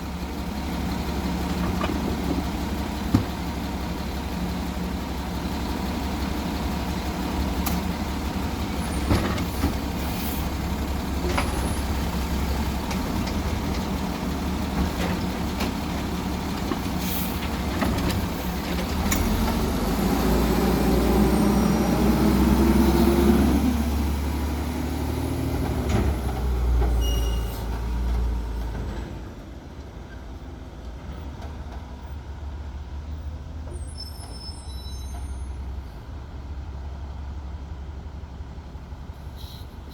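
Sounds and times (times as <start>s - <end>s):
garbage truck diesel engine running: 0.0s - 33.2s.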